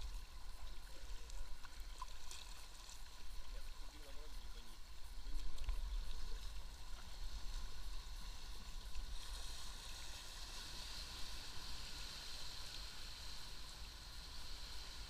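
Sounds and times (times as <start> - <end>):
river water flowing and splashing: 0.0 - 15.0.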